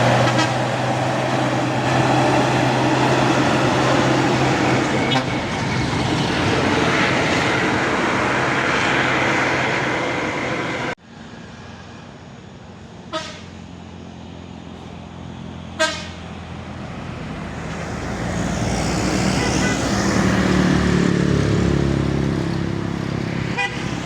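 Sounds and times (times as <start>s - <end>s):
heavy vehicle engine and road noise: 0.0s - 24.0s
quiet traffic: 0.0s - 24.0s.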